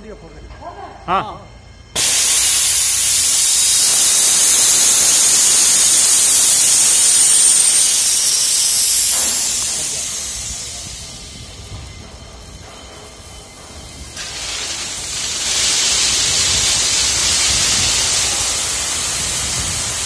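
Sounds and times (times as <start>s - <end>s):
pressurized water hissing: 2.0s - 20.0s.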